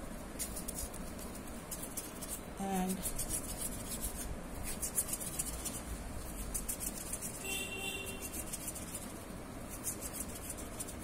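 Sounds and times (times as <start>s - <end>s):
hands kneading putty: 0.0s - 11.0s.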